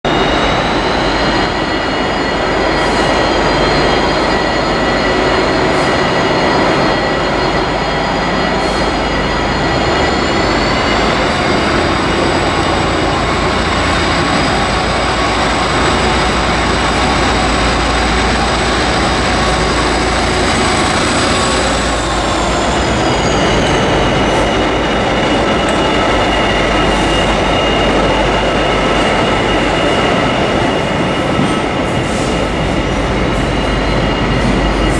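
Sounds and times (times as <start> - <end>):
diesel locomotive engine rumble: 0.0 - 34.9
high whine: 0.0 - 34.9.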